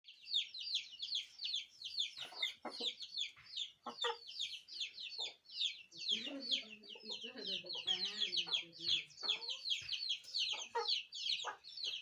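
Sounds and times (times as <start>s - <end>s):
birds chirping rapidly: 0.0s - 12.0s
chickens clucking: 0.1s - 12.0s.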